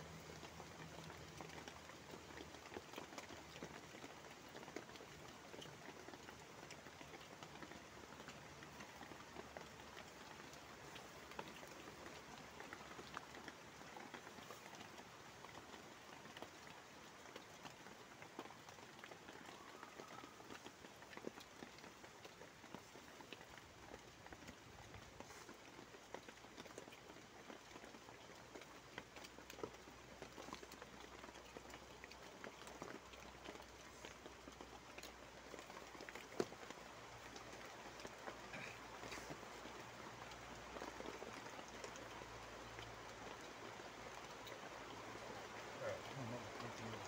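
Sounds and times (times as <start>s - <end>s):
rain on a plastic tarp: 0.0s - 47.0s.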